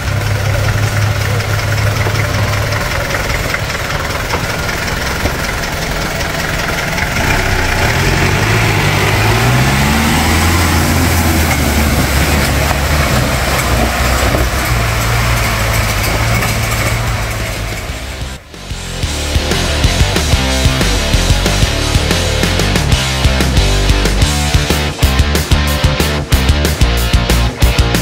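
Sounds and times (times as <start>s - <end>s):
jeep engine revving: 0.0s - 28.0s
tyres churning through mud: 0.0s - 28.0s.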